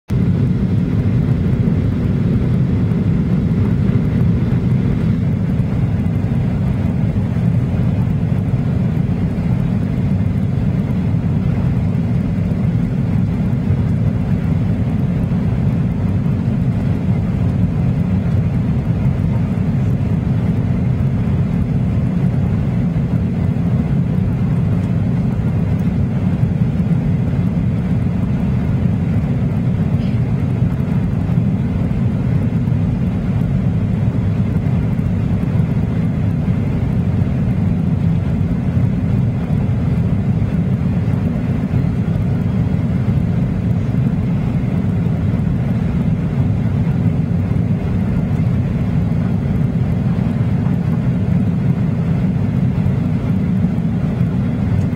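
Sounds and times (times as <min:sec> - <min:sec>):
airplane cabin drone in flight: 0:00.1 - 0:54.9.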